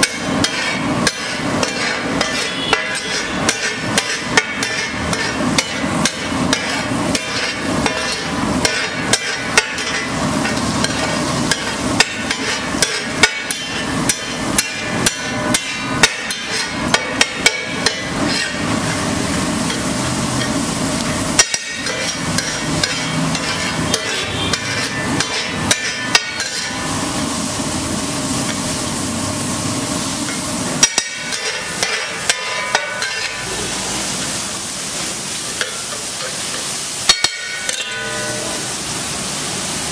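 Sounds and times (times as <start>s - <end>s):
spatula striking and scraping griddle: 0.0s - 27.5s, 30.0s - 34.3s, 34.9s - 38.8s
frying hiss: 0.0s - 39.9s.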